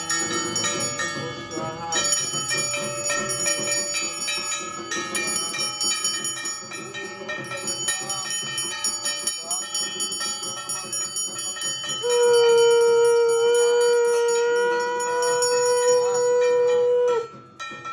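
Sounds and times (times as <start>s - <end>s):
handbell ringing rapidly: 0.0s - 17.9s.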